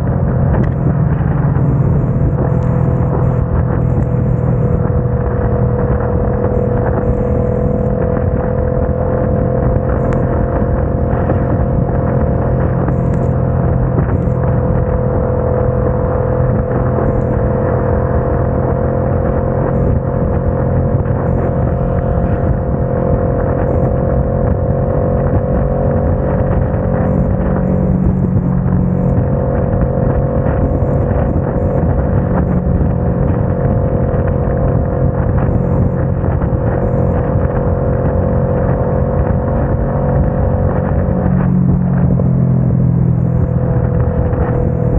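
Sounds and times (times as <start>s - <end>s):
motorcycle engine cruising: 0.0s - 44.9s
wind: 0.0s - 44.9s.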